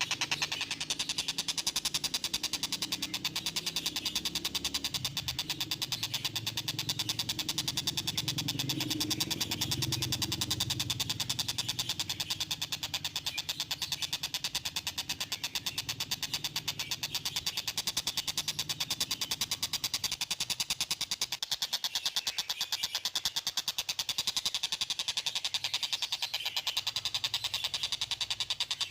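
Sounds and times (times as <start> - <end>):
kingfisher calling: 0.0 - 28.9.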